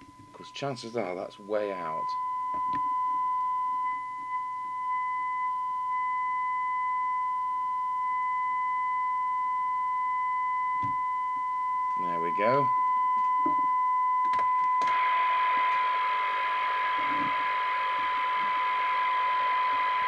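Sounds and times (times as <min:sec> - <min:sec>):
steady pure test tone: 0:00.0 - 0:20.0.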